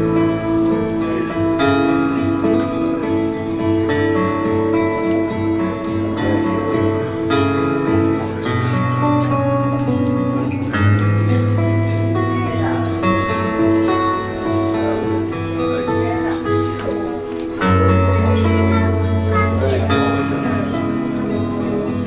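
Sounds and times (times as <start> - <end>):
slow background music: 0.0 - 22.0.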